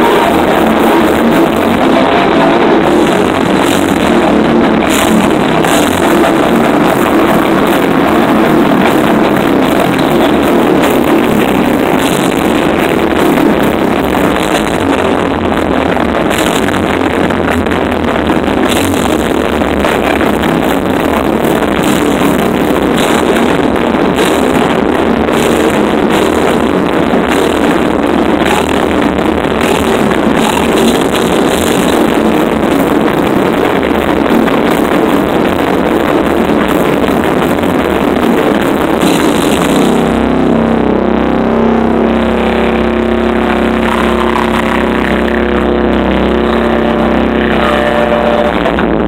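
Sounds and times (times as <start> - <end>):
pounding drums: 0.0 - 42.8
death metal band playing live: 0.0 - 49.0
heavy distorted guitars: 0.0 - 49.0.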